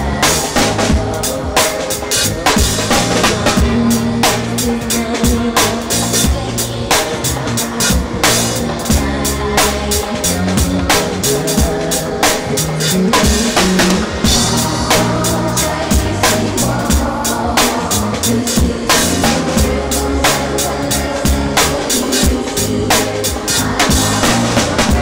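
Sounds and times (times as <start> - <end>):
band playing r and b groove: 0.0 - 25.0
drum kit beat: 0.0 - 25.0.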